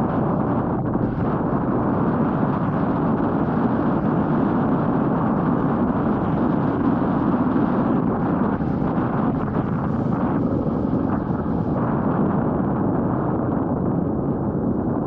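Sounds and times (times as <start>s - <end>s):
motorcycle engine running: 0.0s - 14.3s
wind rushing over microphone: 0.0s - 15.0s.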